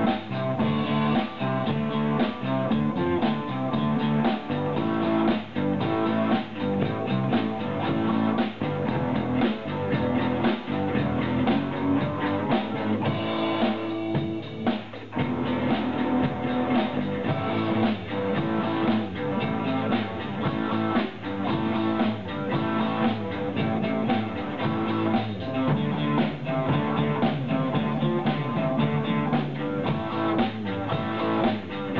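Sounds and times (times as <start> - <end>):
bass guitar: 0.0 - 31.9
drum kit: 0.0 - 31.9
electric guitar: 0.0 - 31.9.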